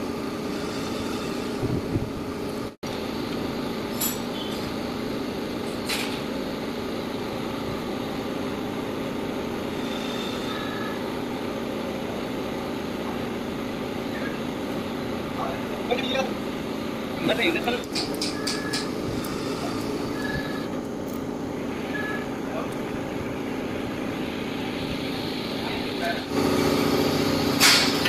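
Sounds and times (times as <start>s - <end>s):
mechanical rumble and hiss: 0.0s - 28.0s.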